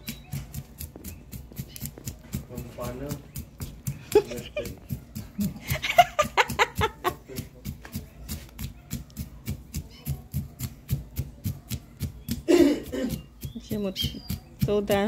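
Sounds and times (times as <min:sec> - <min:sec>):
pestle pounding in mortar: 0:00.0 - 0:15.0.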